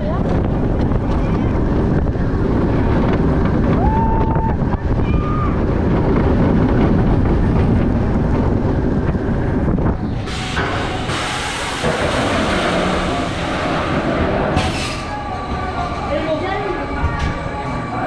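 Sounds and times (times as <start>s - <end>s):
low rumble: 0.0s - 18.0s
wind buffeting microphone: 0.0s - 18.0s.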